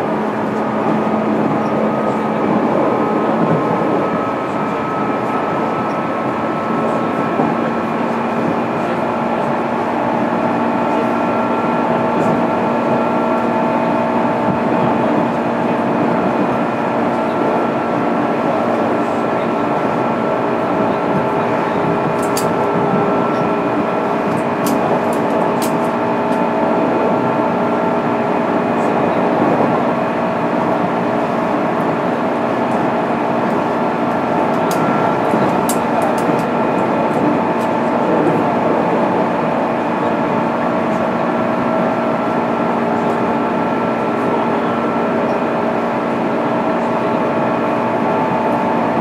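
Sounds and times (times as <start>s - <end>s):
train motor whine: 0.0s - 49.0s
wheels rumbling on rails: 0.0s - 49.0s.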